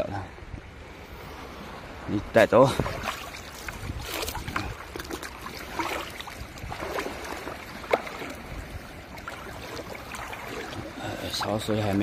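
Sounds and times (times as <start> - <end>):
seawater splashing: 1.4 - 12.0.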